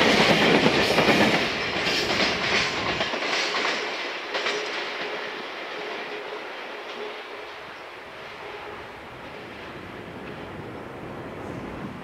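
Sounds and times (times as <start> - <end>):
train wagons clickety-clack: 0.0 - 12.0.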